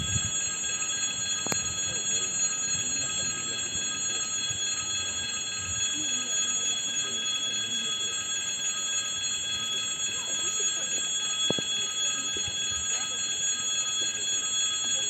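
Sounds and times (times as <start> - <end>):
faint voices: 0.0 - 15.0
railway crossing bell ringing: 0.0 - 15.0.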